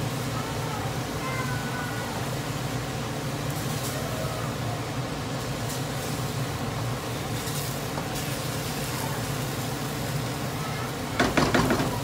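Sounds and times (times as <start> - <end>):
chicken sizzling in a wok: 0.0 - 12.0.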